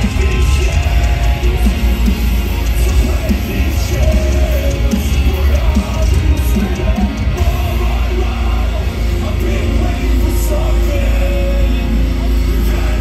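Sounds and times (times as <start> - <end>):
metalcore band playing live: 0.0 - 13.0.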